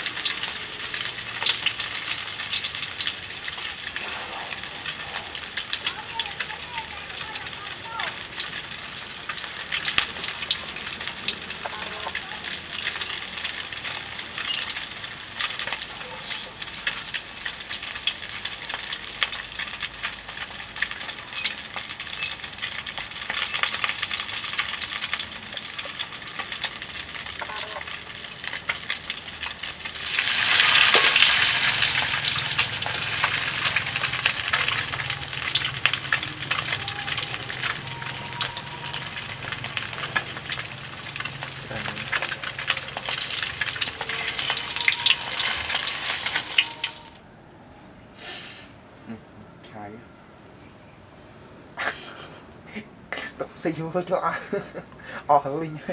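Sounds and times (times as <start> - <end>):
eggs frying in oil: 0.0 - 47.2.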